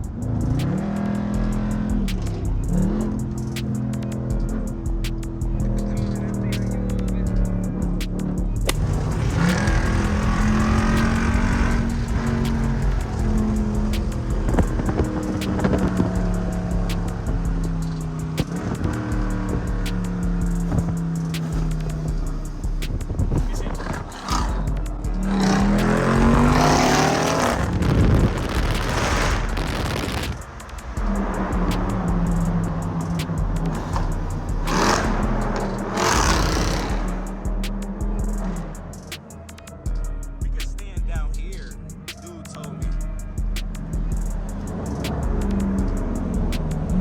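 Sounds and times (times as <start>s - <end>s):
background music with a beat: 0.0s - 47.0s
car engine accelerating: 0.0s - 47.0s.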